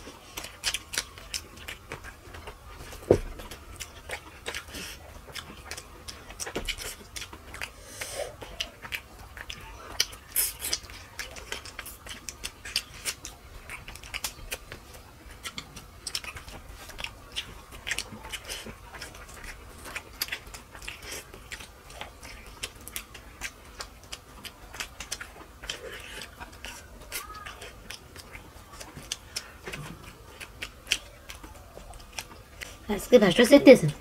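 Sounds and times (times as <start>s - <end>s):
chewing and lip-smacking: 0.0s - 34.0s.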